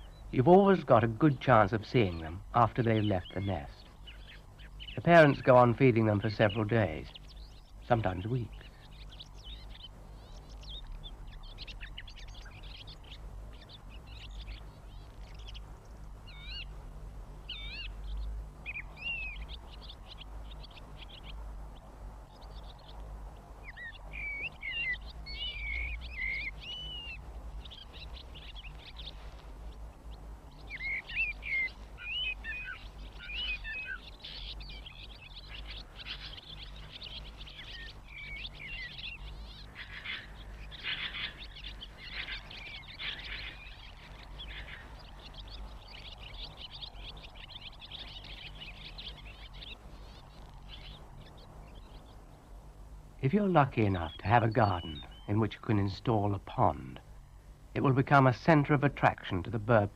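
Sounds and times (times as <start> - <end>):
low steady hum: 0.0 - 59.9
swallows twittering: 0.0 - 59.9.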